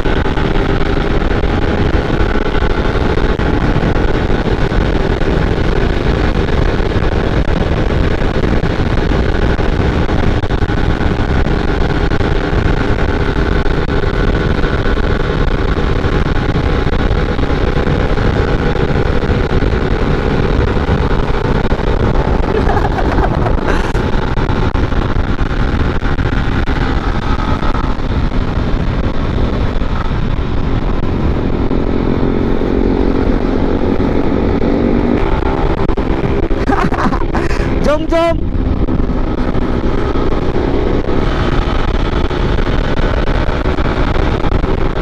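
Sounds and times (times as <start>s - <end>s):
motorcycle engine under throttle: 0.0s - 45.0s
wind rush on microphone: 0.0s - 45.0s.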